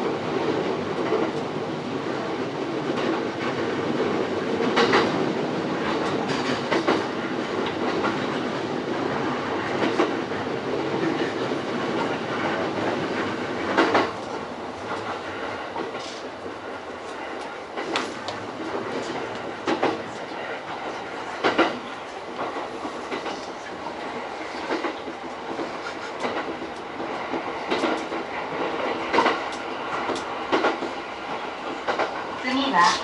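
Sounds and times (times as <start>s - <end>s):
train rolling noise: 0.0s - 33.0s.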